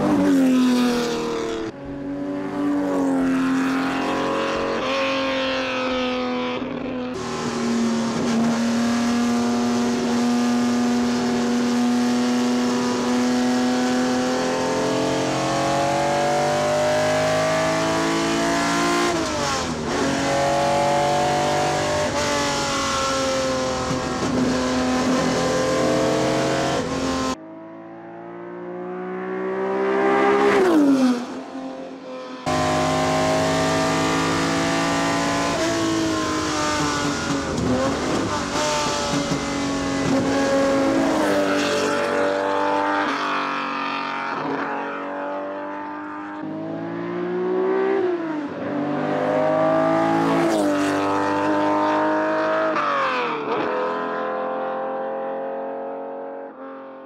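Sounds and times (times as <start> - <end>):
car engine accelerating through gears: 2.4 - 31.8, 32.4 - 56.9.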